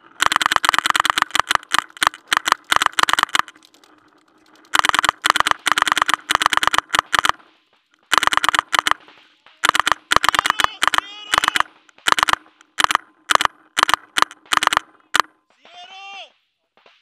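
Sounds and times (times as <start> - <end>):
paintball marker rapid firing: 0.0 - 15.9, 16.8 - 17.0.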